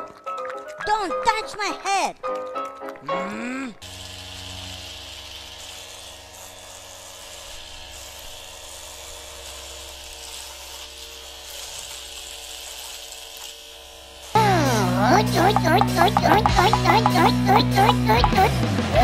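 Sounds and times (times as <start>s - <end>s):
electric hair clippers buzzing: 3.8s - 19.0s.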